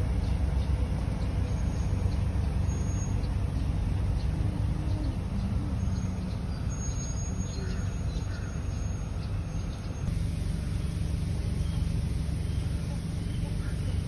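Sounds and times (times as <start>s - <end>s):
vehicle engine rumbling: 0.0s - 14.0s
faint bird chirps: 0.2s - 14.0s.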